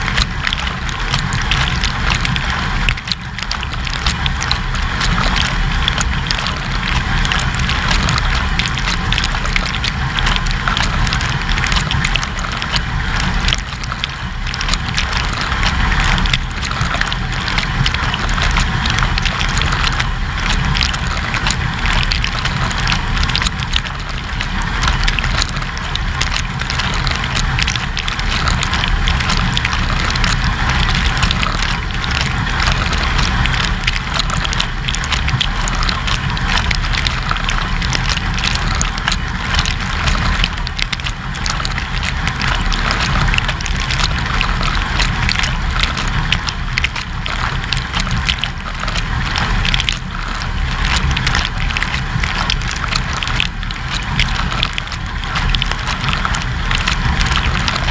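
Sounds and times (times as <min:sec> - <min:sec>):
low pump hum: 0:00.0 - 0:57.9
water splashing from spray arms: 0:00.0 - 0:57.9.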